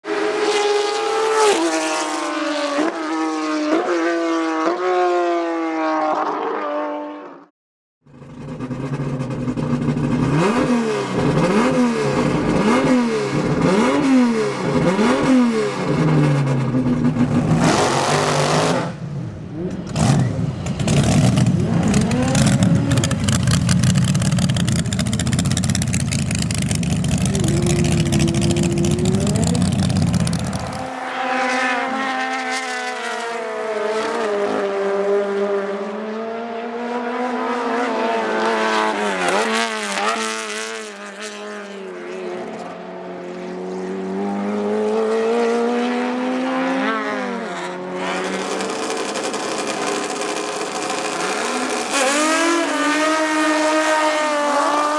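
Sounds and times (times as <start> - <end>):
racing car engines revving: 0.0 - 7.3, 8.1 - 54.9.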